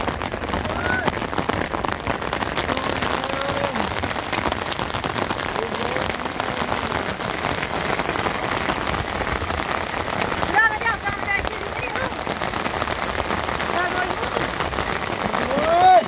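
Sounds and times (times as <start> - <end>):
rain on plastic tarp: 0.0 - 16.0.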